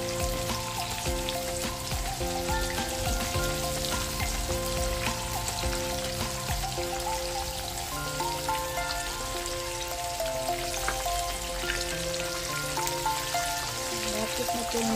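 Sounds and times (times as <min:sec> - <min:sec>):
food deep-frying in oil: 0:00.0 - 0:14.9
soft background music: 0:00.0 - 0:14.9.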